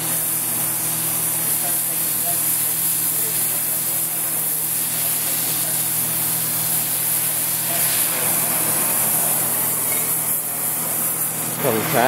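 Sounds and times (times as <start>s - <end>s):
welding torch flame hissing: 0.0s - 12.0s.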